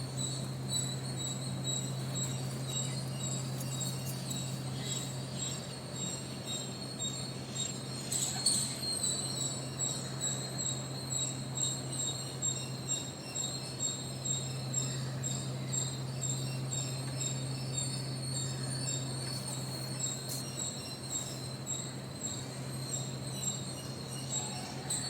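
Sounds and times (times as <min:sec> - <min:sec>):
high-pitched insect chirping: 0:00.0 - 0:25.0.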